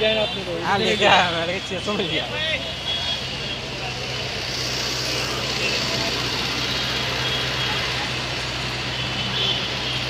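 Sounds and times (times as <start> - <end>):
traffic din: 0.0 - 10.0
vehicle engine idling: 1.5 - 10.0.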